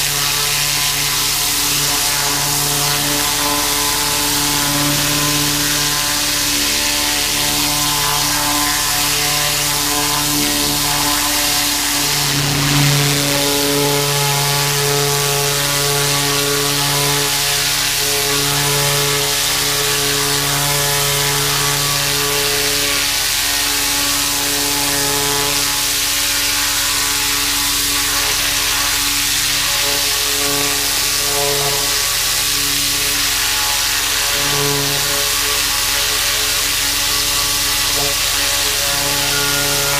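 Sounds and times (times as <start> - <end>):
pressure washer engine running: 0.0 - 39.9
water jet hissing: 0.0 - 39.9.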